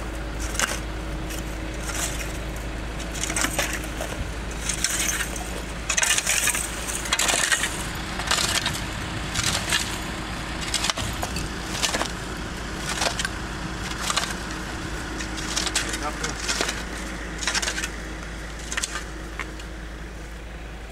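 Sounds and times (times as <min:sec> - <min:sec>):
footsteps crunching on gritty ground: 0:00.0 - 0:20.4
steady low hum: 0:00.0 - 0:20.9.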